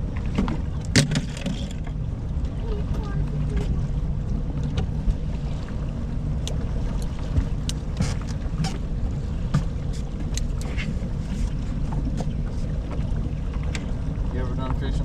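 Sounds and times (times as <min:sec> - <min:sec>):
water around a boat: 0:00.0 - 0:15.0
wind: 0:00.0 - 0:15.0.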